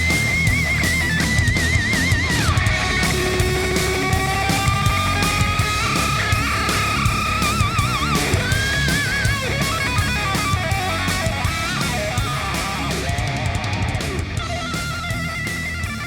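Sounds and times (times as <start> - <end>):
steady drum beat: 0.0 - 16.0.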